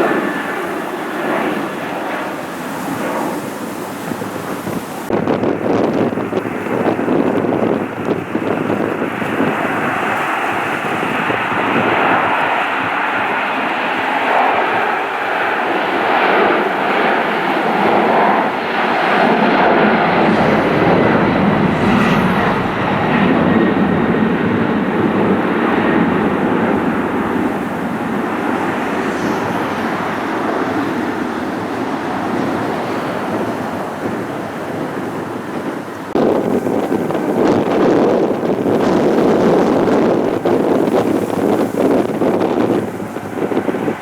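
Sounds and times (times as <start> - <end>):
airliner engine roar: 0.0 - 44.0.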